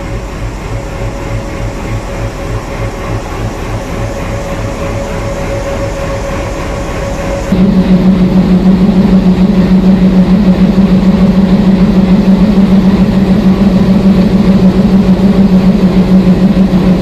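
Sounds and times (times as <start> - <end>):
constant hum: 0.0 - 17.0
diesel locomotive engine pulsing: 0.0 - 17.0.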